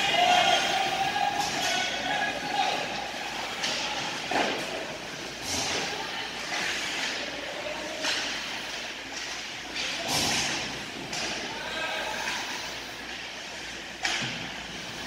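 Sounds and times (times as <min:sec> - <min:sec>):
skates scraping ice: 0:00.1 - 0:15.0.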